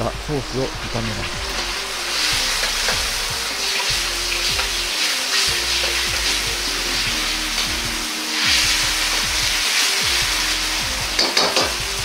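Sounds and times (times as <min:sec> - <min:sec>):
sauce sizzling in oil: 0:00.0 - 0:12.0.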